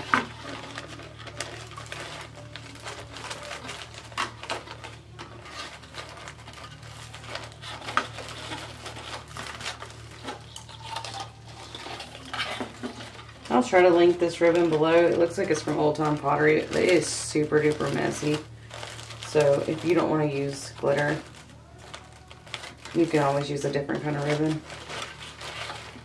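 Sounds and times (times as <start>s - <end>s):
ribbon rustling and crinkling: 0.0s - 26.0s.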